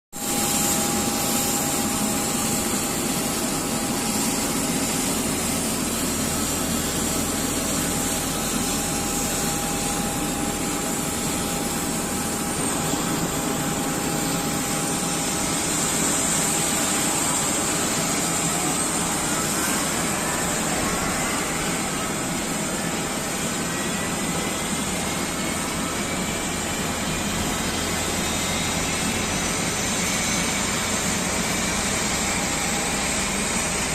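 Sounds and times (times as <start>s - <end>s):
jet engine whine: 0.2s - 33.9s.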